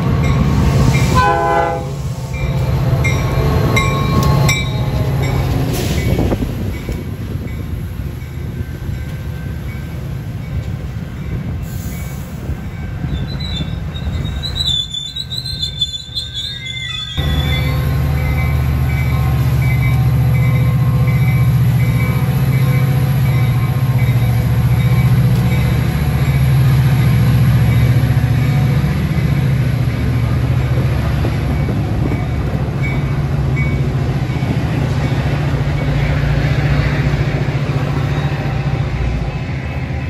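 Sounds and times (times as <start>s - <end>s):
train cars rumbling past: 0.0s - 40.0s.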